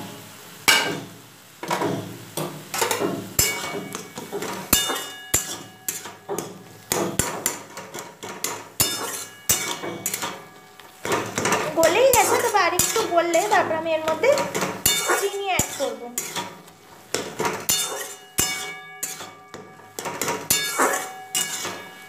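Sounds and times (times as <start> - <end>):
metal spatula clanking in a wok: 0.7 - 22.0.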